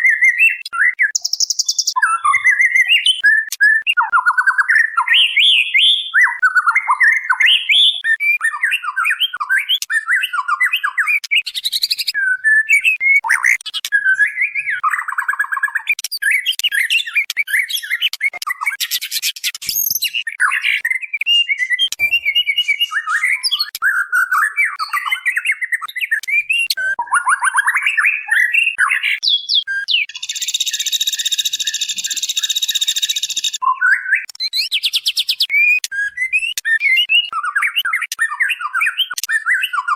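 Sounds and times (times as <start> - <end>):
songbird whistling and chattering: 0.0 - 39.9.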